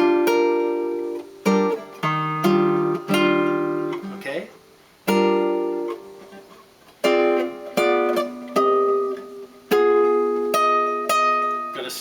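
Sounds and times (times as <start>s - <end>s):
guitar chords plucked: 0.0s - 12.0s.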